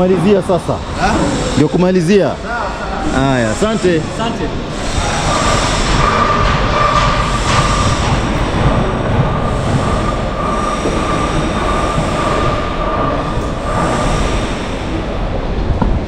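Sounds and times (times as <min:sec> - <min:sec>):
construction machinery rumble: 0:00.0 - 0:16.0
high steady whine: 0:00.0 - 0:16.0.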